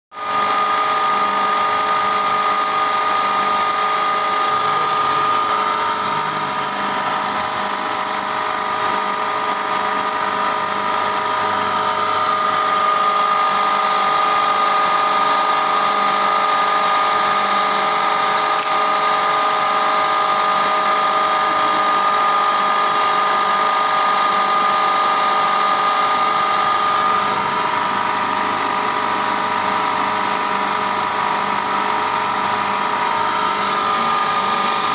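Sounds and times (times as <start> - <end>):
milling machine whine: 0.2 - 34.9.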